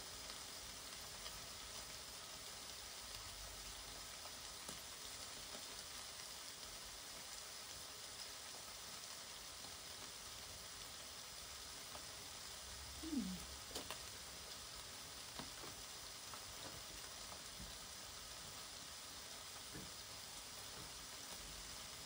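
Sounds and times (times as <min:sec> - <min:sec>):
meat sizzling in a grill: 0:00.0 - 0:22.0.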